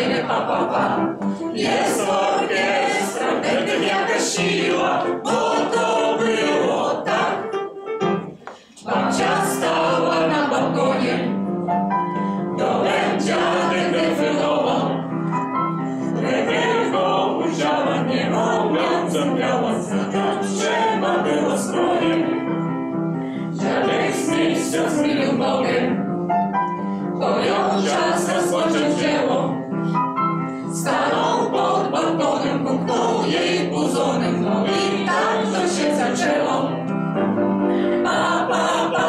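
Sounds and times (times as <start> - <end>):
choir and audience singing: 0.0 - 39.0
keyboard accompaniment: 0.0 - 39.0.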